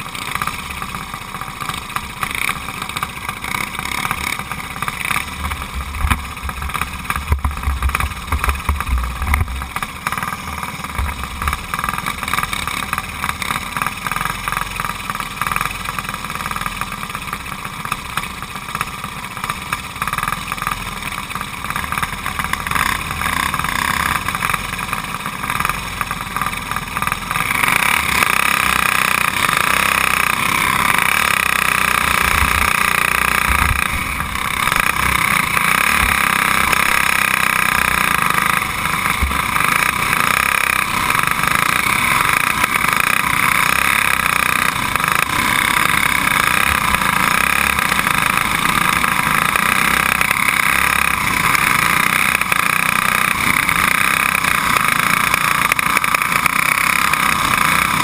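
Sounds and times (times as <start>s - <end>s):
go-kart engine running: 0.0s - 58.0s.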